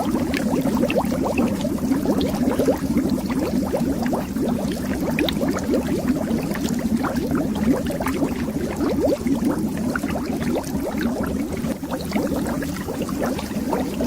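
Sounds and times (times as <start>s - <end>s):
bubbles popping underwater: 0.0s - 14.0s.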